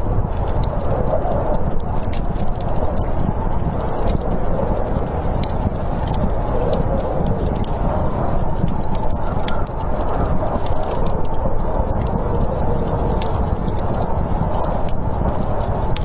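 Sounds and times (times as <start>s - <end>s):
storm wind rushing: 0.0s - 16.0s
wood fire crackling and popping: 0.0s - 16.0s.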